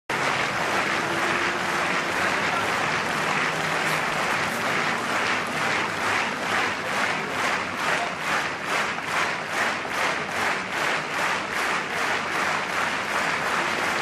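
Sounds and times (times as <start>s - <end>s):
rhythmic clapping: 0.1s - 14.0s
stadium crowd applauding: 0.1s - 14.0s.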